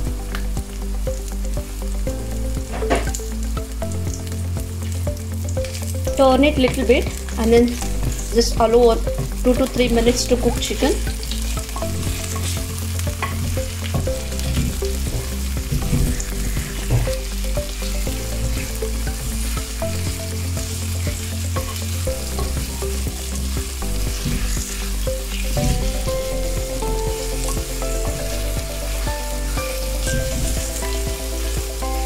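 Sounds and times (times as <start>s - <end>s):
food sizzling in oil: 0.1s - 32.0s.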